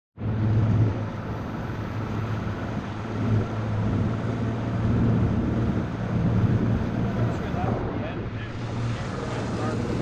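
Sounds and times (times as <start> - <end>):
outboard motor humming: 0.2 - 10.0.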